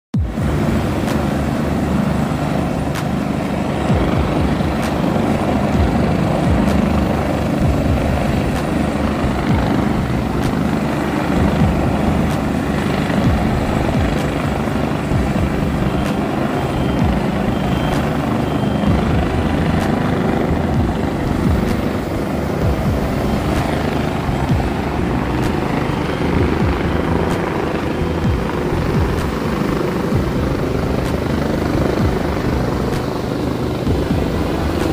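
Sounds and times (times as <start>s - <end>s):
helicopter rotor and engine: 0.1s - 34.9s
wind on microphone: 0.1s - 34.9s.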